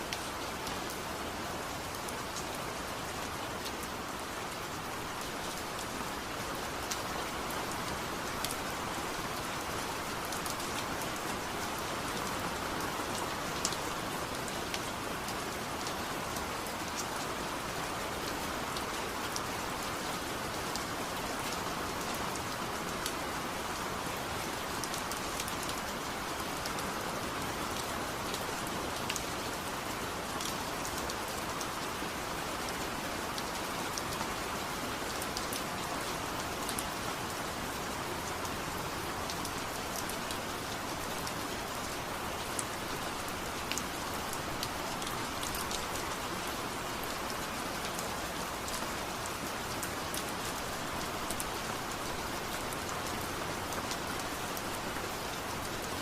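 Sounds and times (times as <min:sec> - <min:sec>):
rain drops ticking on a surface: 0:00.0 - 0:56.0.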